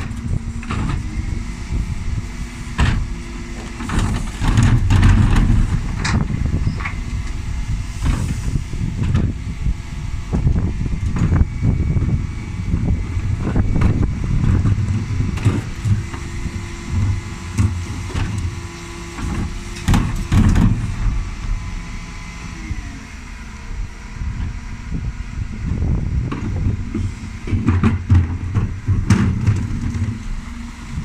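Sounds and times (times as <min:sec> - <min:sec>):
refuse lorry rumble: 0:00.0 - 0:31.0.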